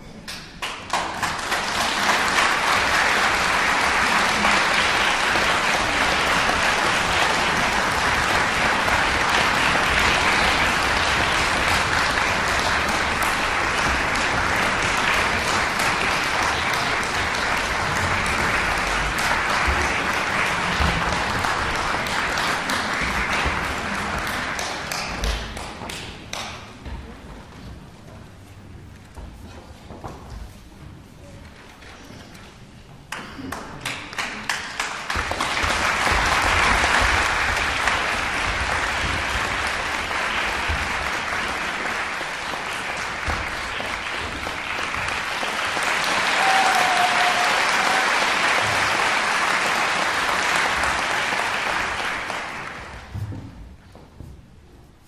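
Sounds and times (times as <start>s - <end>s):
audience applauding: 0.6s - 26.5s, 33.2s - 53.2s.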